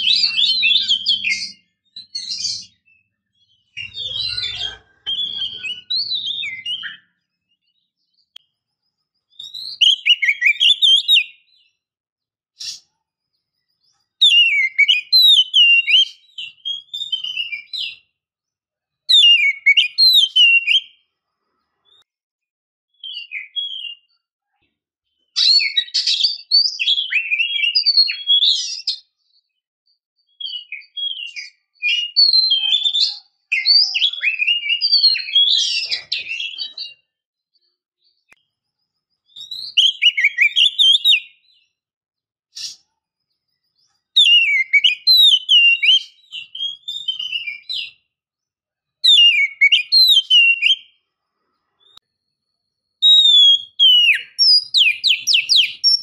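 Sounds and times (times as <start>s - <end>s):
bird singing whistles and chirps: 0.0s - 11.8s, 12.6s - 18.2s, 19.0s - 21.1s, 23.0s - 24.2s, 25.2s - 29.6s, 30.2s - 41.8s, 42.6s - 48.2s, 49.0s - 51.0s, 51.8s - 56.0s.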